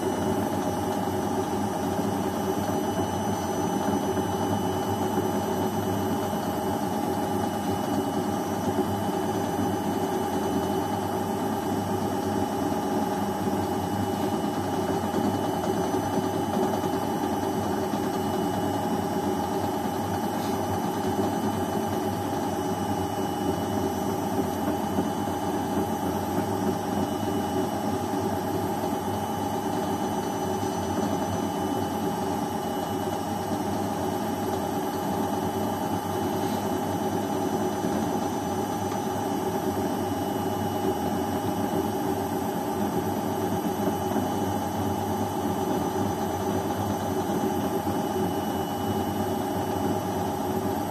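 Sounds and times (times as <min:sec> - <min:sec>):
washing machine running: 0:00.0 - 0:50.9.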